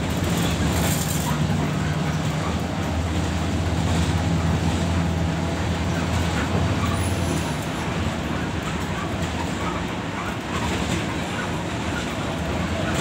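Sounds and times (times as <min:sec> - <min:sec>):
bus engine drone: 0:00.0 - 0:13.0
tyre and road noise: 0:00.0 - 0:13.0.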